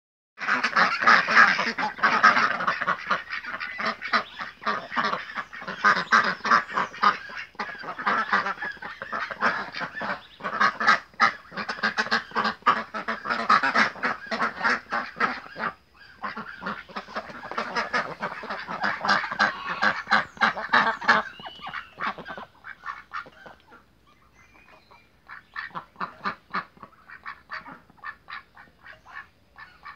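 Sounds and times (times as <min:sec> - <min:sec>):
ducks quacking: 0:00.4 - 0:29.9.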